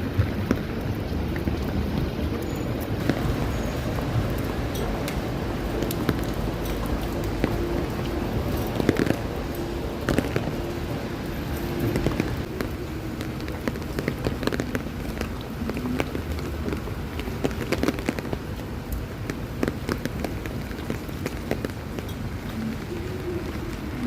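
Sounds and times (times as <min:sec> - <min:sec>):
faint traffic hum: 0:00.0 - 0:24.0
light rain on wet street: 0:00.0 - 0:24.0.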